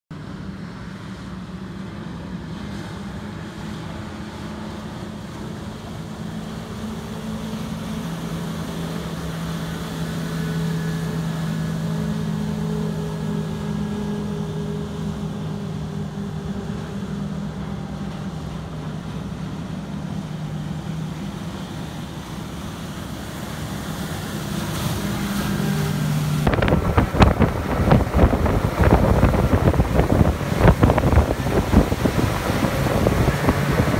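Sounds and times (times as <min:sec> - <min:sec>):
churning boat wake: 0:00.1 - 0:33.9
outboard engines droning: 0:00.1 - 0:33.9
rushing wind: 0:01.6 - 0:33.9.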